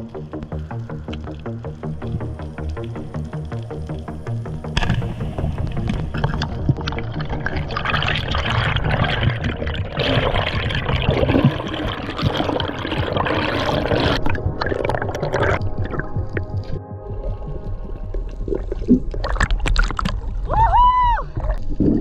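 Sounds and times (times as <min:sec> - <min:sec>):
underwater air bubbles gurgling: 0:00.0 - 0:20.5, 0:21.4 - 0:22.0.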